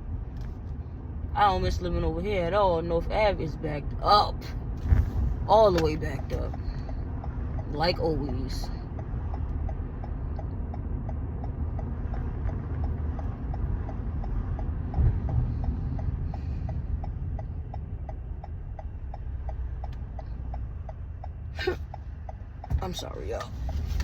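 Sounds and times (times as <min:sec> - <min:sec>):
engine and road rumble: 0:00.0 - 0:24.0
turn signal ticking: 0:00.0 - 0:24.0.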